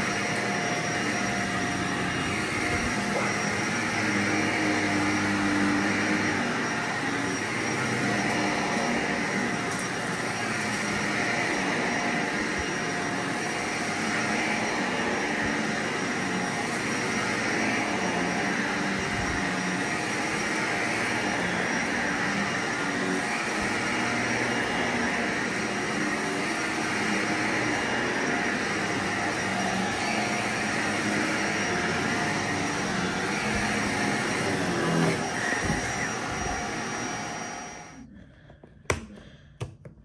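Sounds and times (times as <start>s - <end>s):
vacuum cleaner running: 0.0s - 39.3s.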